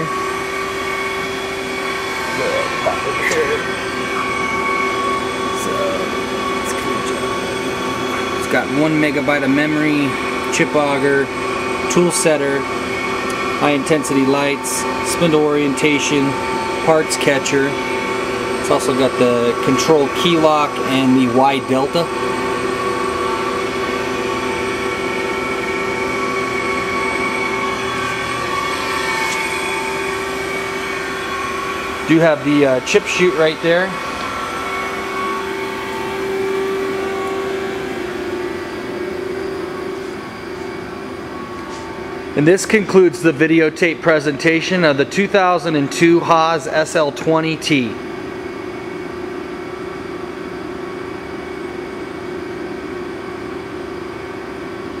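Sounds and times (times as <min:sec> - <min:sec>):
constant whining tones: 0:00.0 - 0:50.0
lathe machine hum: 0:00.0 - 0:55.0.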